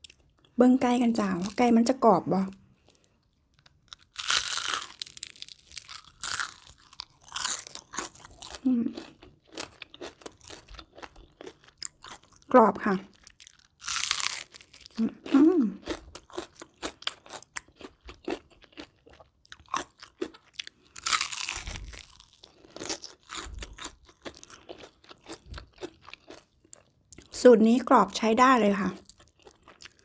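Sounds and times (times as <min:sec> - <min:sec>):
crunchy food being chewed: 0:00.0 - 0:01.7, 0:02.5 - 0:27.4, 0:28.9 - 0:30.0.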